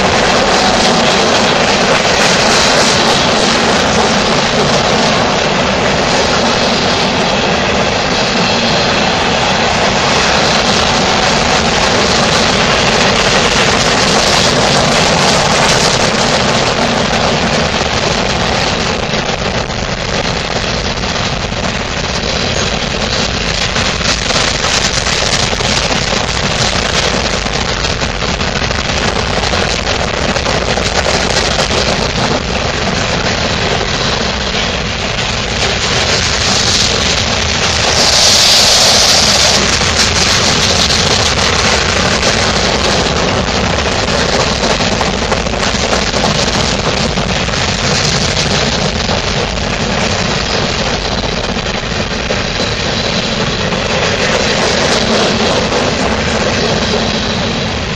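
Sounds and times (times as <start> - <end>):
freight train wheels clattering: 0.0 - 57.9.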